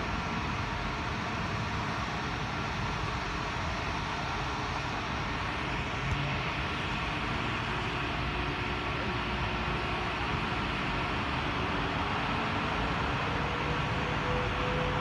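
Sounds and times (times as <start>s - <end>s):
rushing vehicle noise: 0.0s - 15.0s.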